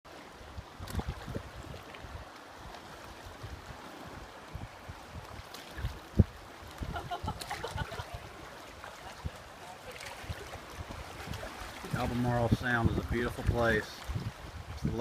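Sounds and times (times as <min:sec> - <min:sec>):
wind: 0:00.0 - 0:15.0
rushing water: 0:00.1 - 0:15.0
wind buffeting microphone: 0:00.4 - 0:15.0.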